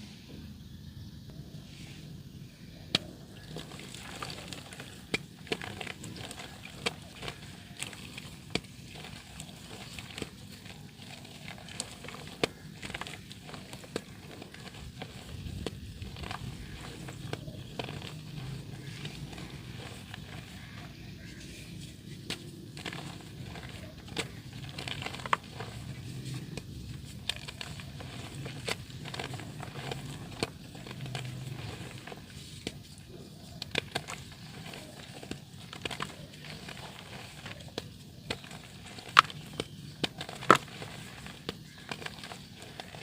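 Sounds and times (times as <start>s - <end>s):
dirt crumbling in water: 2.8s - 43.0s.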